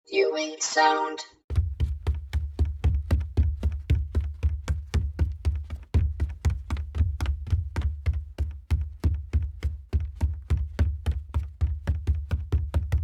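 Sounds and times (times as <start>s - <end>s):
bare feet running on wooden floor: 1.5s - 13.0s.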